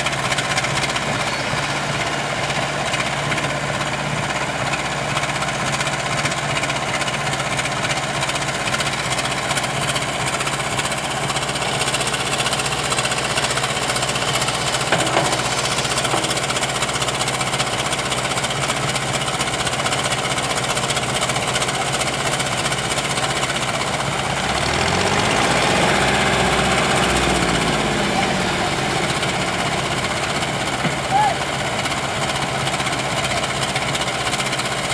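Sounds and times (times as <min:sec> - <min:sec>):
backhoe digging gravel: 0:00.0 - 0:07.3, 0:09.1 - 0:34.9
diesel engine running: 0:00.0 - 0:34.9.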